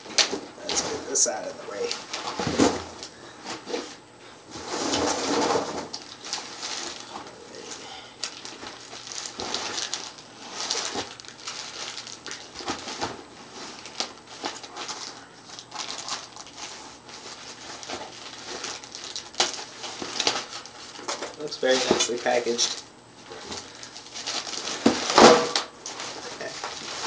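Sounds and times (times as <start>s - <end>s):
plastic wrap and cardboard crinkling: 0.0s - 27.0s.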